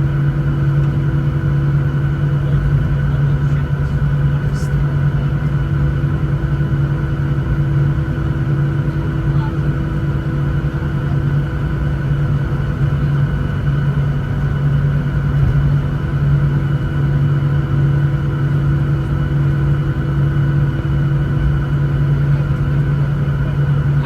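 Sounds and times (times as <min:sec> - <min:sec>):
jet engines humming in cabin: 0:00.0 - 0:24.0.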